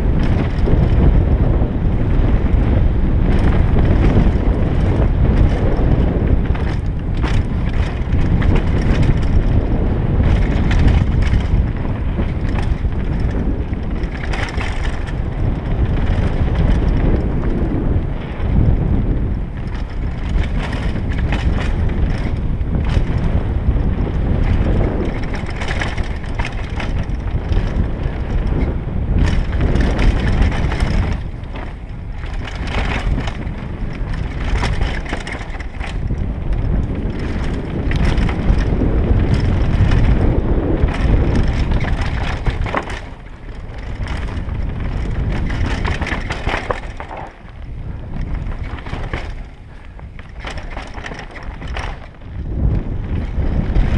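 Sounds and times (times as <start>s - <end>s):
bike rattling over bumps: 0.0s - 53.9s
rush of wind: 0.0s - 53.9s
tyre rumble over dirt: 2.1s - 53.9s.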